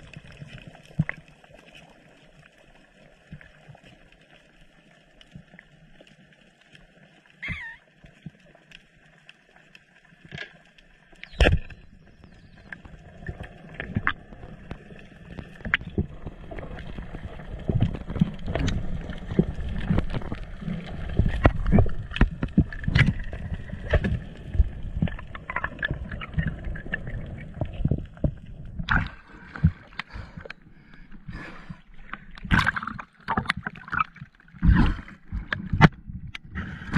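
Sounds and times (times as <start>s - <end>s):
low rumbling water noise: 0.0s - 6.0s, 10.8s - 36.9s.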